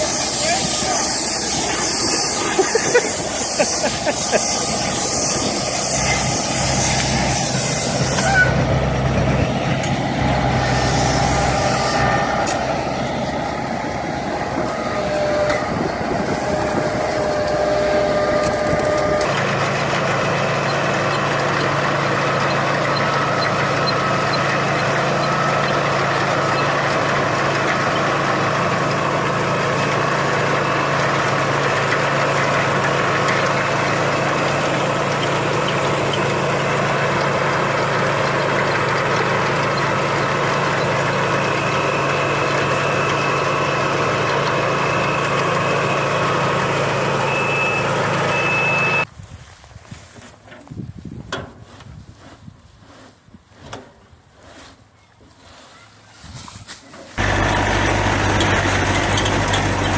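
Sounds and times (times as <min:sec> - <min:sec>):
low engine hum: 0:00.0 - 0:49.6, 0:50.6 - 0:59.9
tractor and hay baler running: 0:00.0 - 0:59.9.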